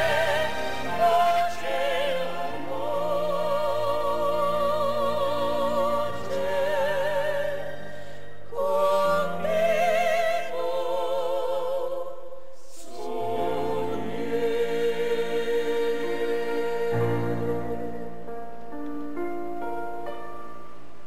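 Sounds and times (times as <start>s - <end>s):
choir singing a slow ballad: 0.0s - 18.5s.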